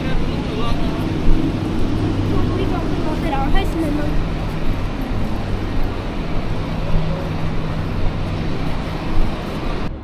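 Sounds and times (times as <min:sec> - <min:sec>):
wet street hiss: 0:00.0 - 0:09.9
low engine hum: 0:00.0 - 0:10.0.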